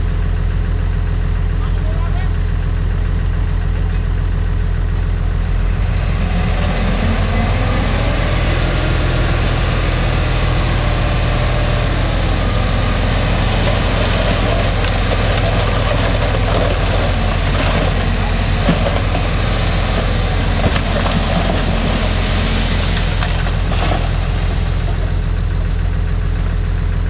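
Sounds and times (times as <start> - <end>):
diesel earthmoving machinery running: 0.0 - 27.0
mechanical rumble: 0.0 - 27.0.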